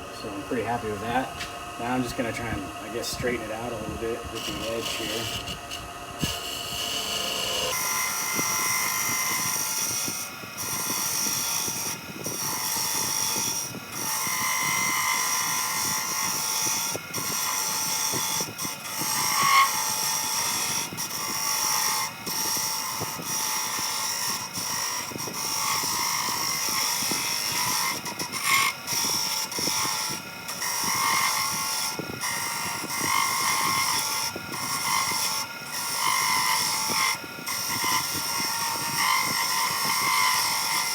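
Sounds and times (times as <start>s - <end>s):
chisel cutting spinning wood: 0.0s - 40.9s
wood lathe running: 0.0s - 40.9s.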